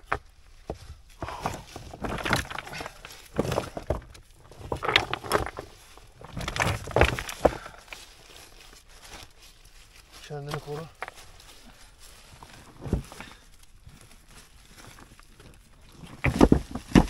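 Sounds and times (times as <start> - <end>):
debris rustling: 0.0 - 17.0
small stones clattering and scraping: 0.0 - 17.0.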